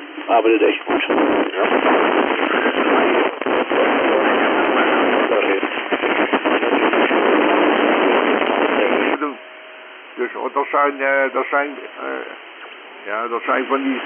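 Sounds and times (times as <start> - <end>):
radio static hiss and crackle: 0.0 - 14.0.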